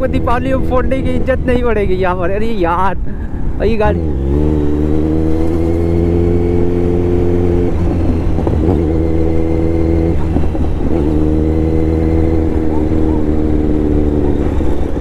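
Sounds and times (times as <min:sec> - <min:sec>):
motorcycle engine running: 0:00.0 - 0:02.1, 0:03.8 - 0:15.0.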